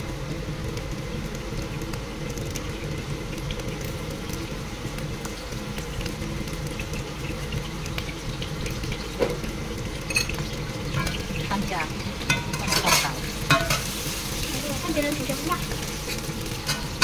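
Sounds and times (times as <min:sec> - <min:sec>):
tofu sizzling in oil: 0:00.0 - 0:17.0.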